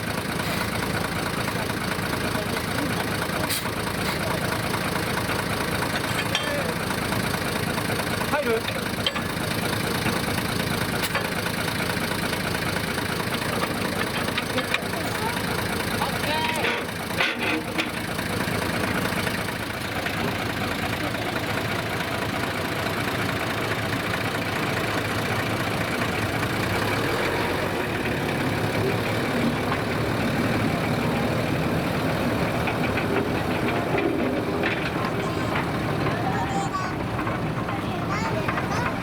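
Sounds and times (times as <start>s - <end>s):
locomotive engine droning: 0.0s - 39.0s.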